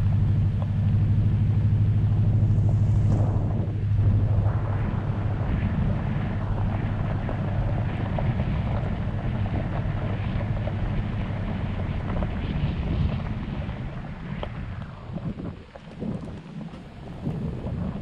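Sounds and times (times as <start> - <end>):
truck rumbling on gravel: 0.0 - 18.0
wind on microphone: 0.0 - 18.0.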